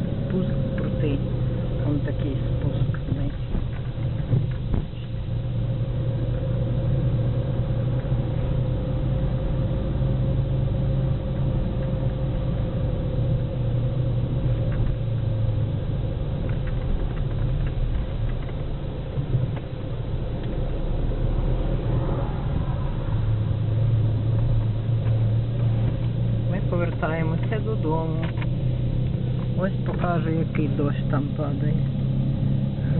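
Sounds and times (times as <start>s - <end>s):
car engine and road noise: 0.0s - 32.9s.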